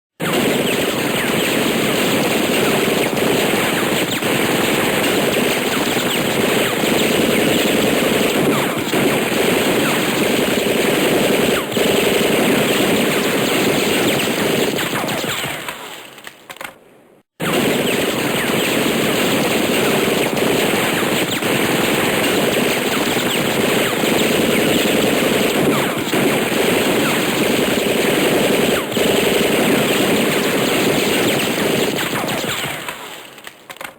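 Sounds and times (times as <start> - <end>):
machine gun automatic fire: 0.2 - 16.8, 17.4 - 33.9.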